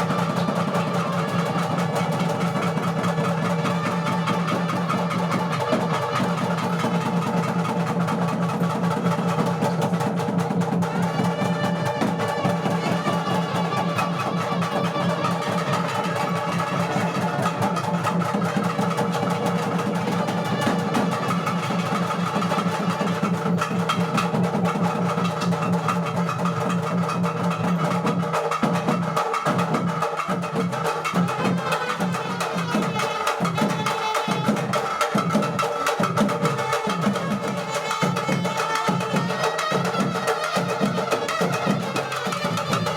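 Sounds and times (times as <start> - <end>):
fast dense drumming: 0.0 - 42.9.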